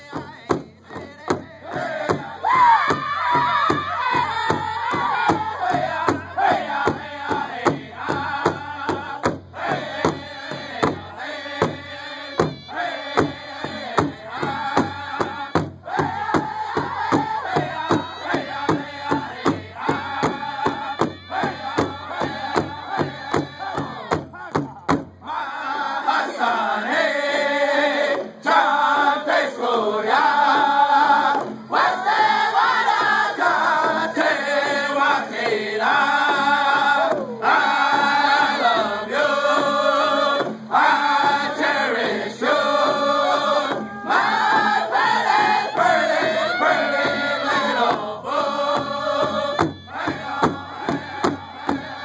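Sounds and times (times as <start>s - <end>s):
hand drum steady beat: 0.0s - 25.4s, 27.0s - 52.0s
group singing in unison: 0.0s - 52.0s.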